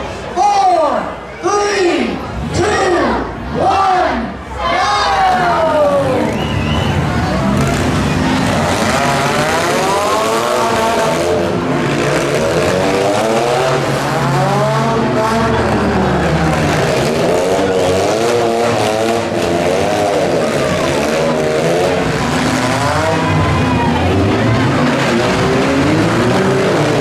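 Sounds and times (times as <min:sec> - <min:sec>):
crowd noise: 0:00.0 - 0:27.0
car engines revving: 0:01.9 - 0:27.0
tire noise: 0:02.0 - 0:27.0.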